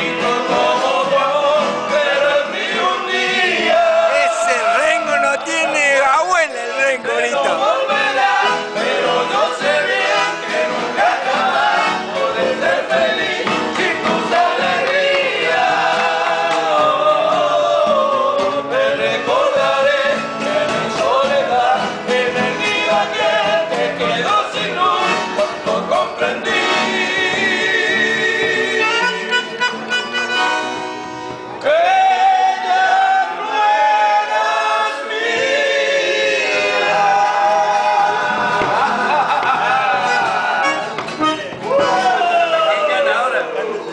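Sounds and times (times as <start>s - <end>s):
men singing together: 0.0s - 29.6s, 31.6s - 41.0s.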